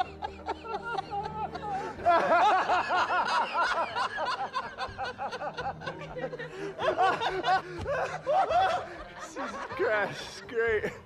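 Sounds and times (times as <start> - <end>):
men laughing: 0.0 - 11.0.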